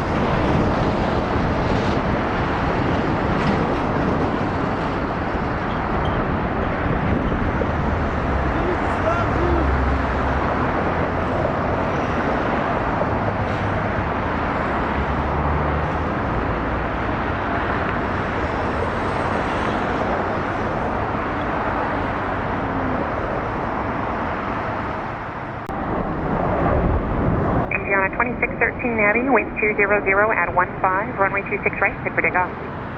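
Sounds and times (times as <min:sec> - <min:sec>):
jet engines rushing rumble: 0:00.0 - 0:32.9.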